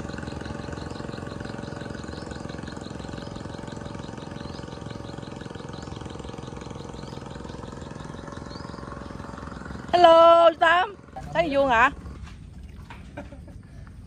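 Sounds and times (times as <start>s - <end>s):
faint high chirp: 0.0s - 11.5s
small engine idling: 0.0s - 14.0s.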